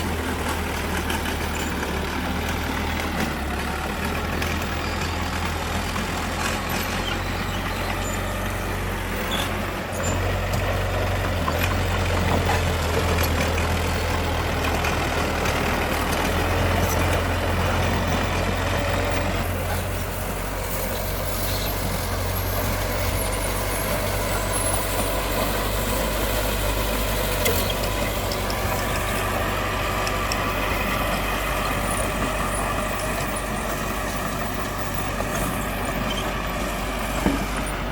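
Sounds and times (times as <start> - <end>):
heavy diesel machinery running: 0.0 - 37.9.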